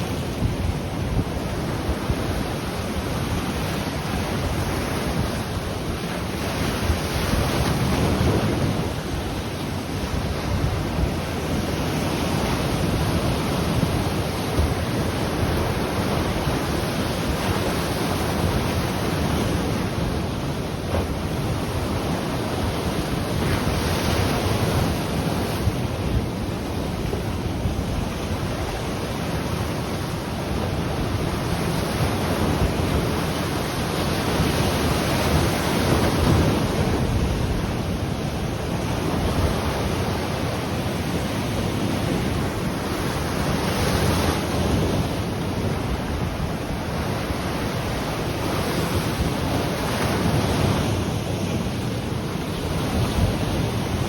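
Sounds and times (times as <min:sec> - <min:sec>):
ocean waves breaking on shore: 0:00.0 - 0:54.0
wind buffeting microphone: 0:00.0 - 0:54.0.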